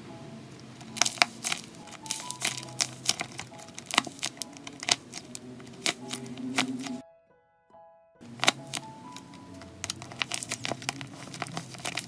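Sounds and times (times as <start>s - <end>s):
soft background music: 0.0s - 12.0s
tape-wrapped toy crinkling: 0.8s - 7.0s, 8.3s - 12.0s.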